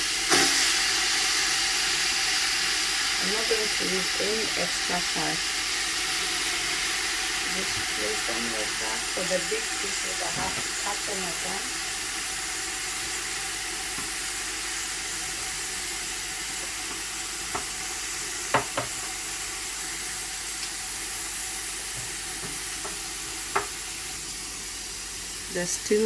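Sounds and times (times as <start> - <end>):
chicken sizzling in a pot: 0.0 - 26.0.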